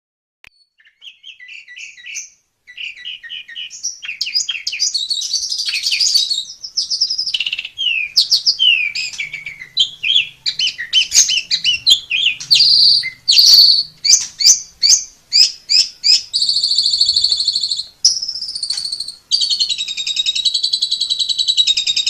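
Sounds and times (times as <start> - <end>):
starling singing: 0.6 - 22.0.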